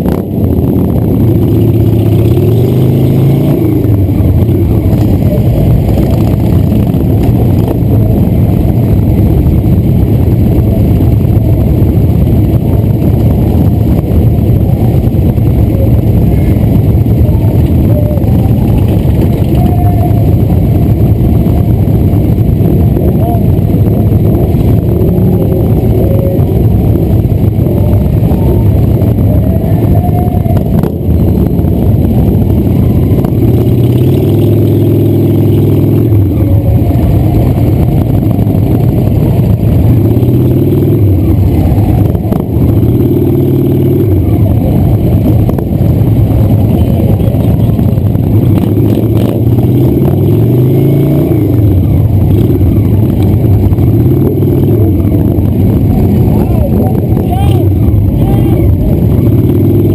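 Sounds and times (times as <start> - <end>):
motorcycle engine running: 0.0 - 59.9
other motorcycles running: 0.0 - 59.9.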